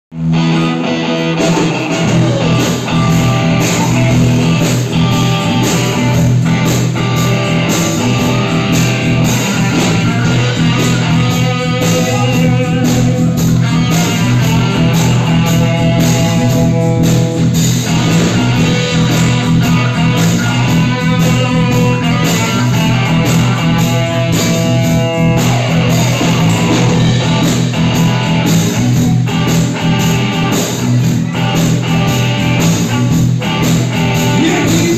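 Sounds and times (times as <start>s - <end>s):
bass and drums: 0.1s - 34.9s
electric guitar: 0.1s - 34.9s.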